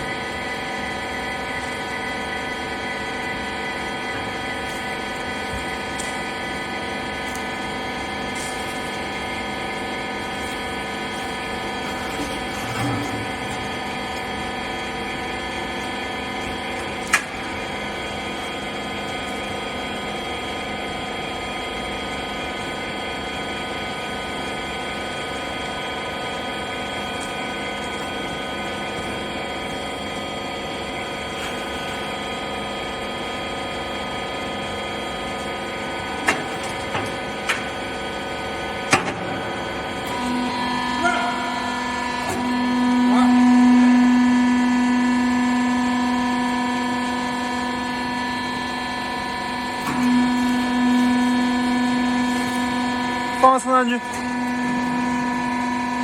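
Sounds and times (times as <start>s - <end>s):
baler machine hum: 0.0s - 56.0s.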